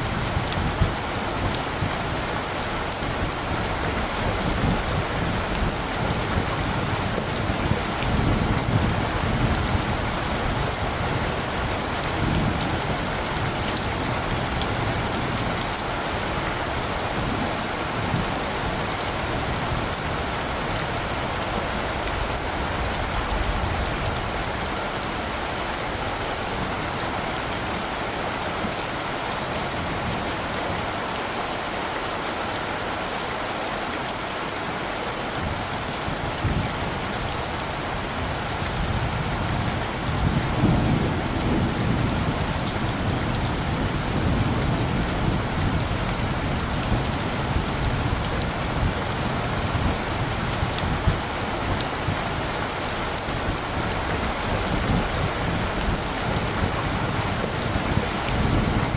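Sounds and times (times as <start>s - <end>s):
light thunder rumbling: 0.0s - 31.2s, 34.8s - 58.9s
steady rain falling: 0.0s - 58.9s.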